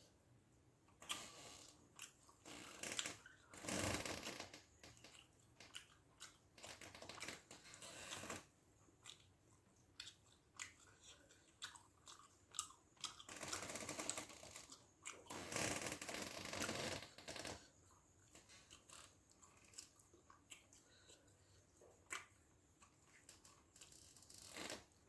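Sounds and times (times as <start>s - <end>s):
person chewing food: 1.0s - 25.0s.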